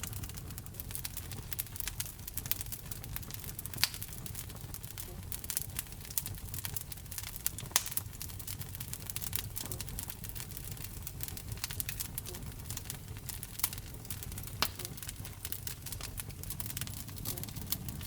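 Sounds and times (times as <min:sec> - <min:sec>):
fire pops: 0:00.0 - 0:18.0
wood fire crackling: 0:00.0 - 0:18.0.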